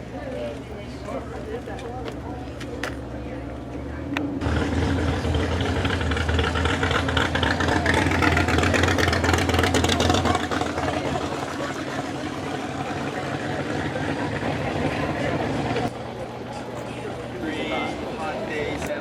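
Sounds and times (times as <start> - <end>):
car engine running: 2.1 - 19.0.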